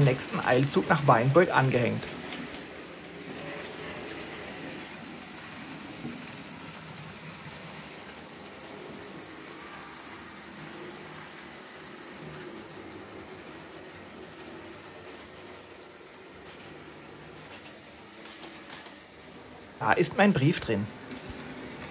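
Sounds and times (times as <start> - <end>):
model train running: 0.0 - 21.9.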